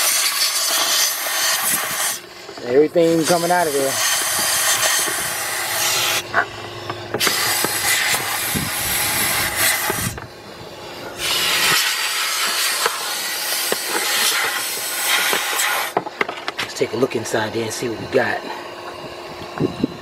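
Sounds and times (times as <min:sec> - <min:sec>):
compressed air blow gun hissing: 0:00.0 - 0:16.0.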